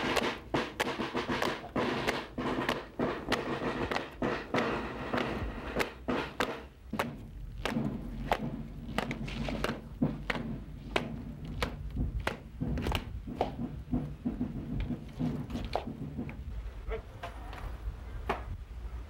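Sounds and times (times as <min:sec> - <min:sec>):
boots stamping on stone: 0:00.0 - 0:16.5.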